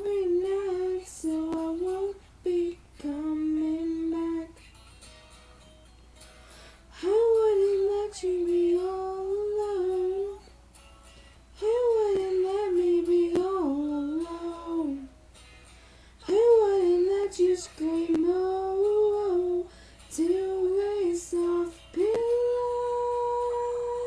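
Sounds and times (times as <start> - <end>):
woman singing: 0.0 - 4.8, 6.9 - 10.6, 11.6 - 15.1, 16.2 - 24.0.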